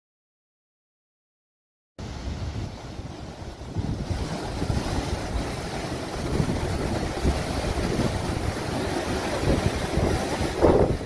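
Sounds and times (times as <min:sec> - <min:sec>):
surf breaking over rocks: 0:02.0 - 0:11.0
wind buffeting microphone: 0:02.0 - 0:11.0.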